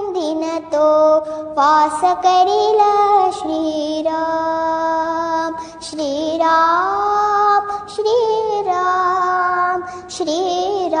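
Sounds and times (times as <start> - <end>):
child singing devotional song: 0.0 - 11.0.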